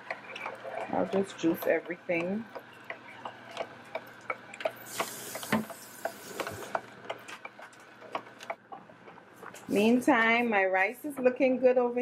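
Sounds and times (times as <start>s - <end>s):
juicer motor hum: 0.0s - 9.6s
produce crunching in juicer: 0.0s - 9.7s.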